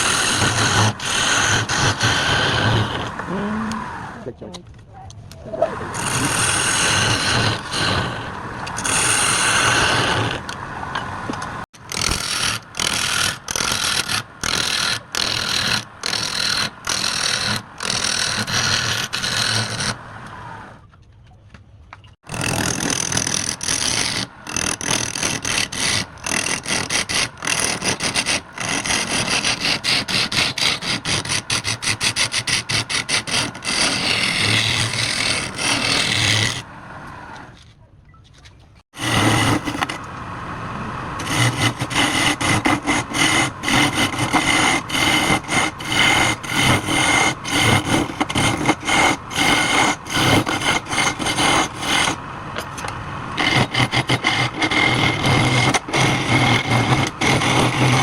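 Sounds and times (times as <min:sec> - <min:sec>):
lathe tool cutting wood: 0:00.0 - 0:04.3, 0:05.8 - 0:11.2, 0:11.8 - 0:20.7, 0:22.3 - 0:37.5, 0:38.9 - 0:40.1, 0:41.2 - 0:52.2, 0:53.3 - 0:58.0.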